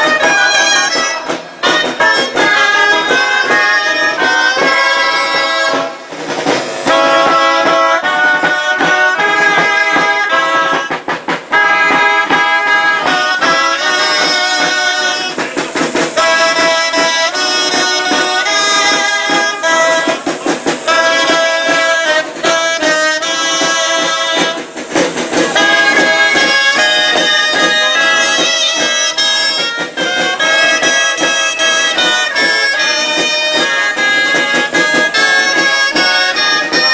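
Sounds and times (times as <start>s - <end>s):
shawms playing reedy melody: 0.0s - 36.9s.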